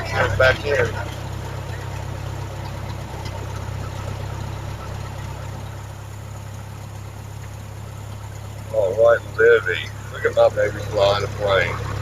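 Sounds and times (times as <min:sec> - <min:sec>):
airplane engine running: 0:00.0 - 0:12.0.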